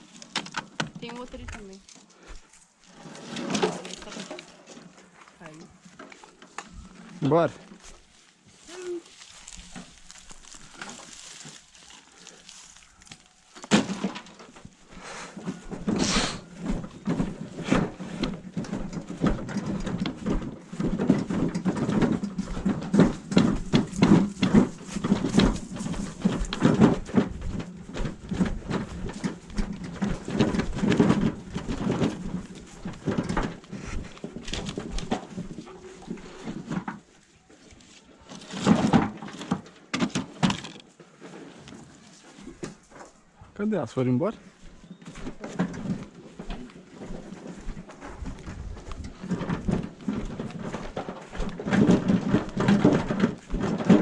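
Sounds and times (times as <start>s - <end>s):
hand cart rattling over rough ground: 0.0s - 54.0s.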